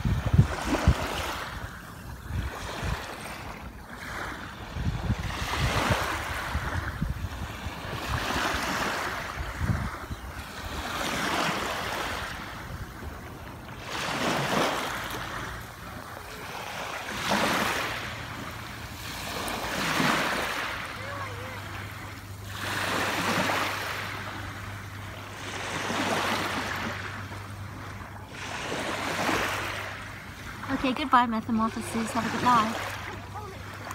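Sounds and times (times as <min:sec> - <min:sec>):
small waves washing over sand: 0:00.0 - 0:33.9.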